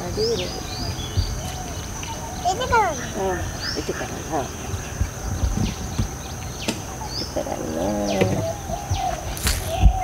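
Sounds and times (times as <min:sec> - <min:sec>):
birds chirping and calling: 0:00.0 - 0:10.0.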